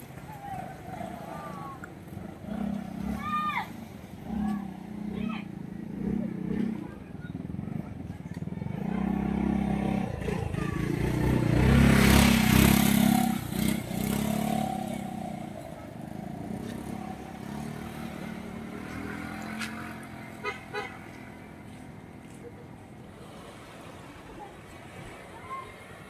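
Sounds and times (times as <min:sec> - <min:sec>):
motorcycle passing by: 0:00.0 - 0:26.0.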